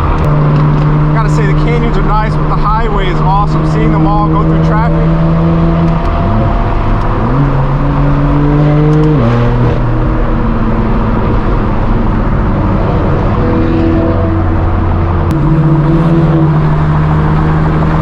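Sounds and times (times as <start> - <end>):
car engine revving through exhaust: 0.0 - 18.0.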